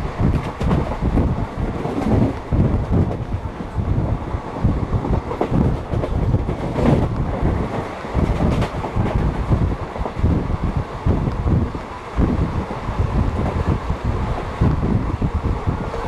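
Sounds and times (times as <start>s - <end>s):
moving train rumble: 0.0s - 16.0s
wind buffeting microphone: 0.0s - 16.0s.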